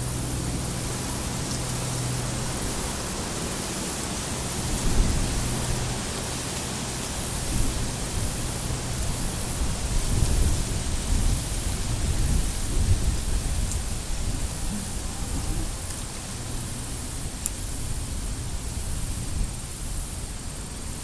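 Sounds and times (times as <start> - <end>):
outdoor rushing hiss: 0.0 - 21.0.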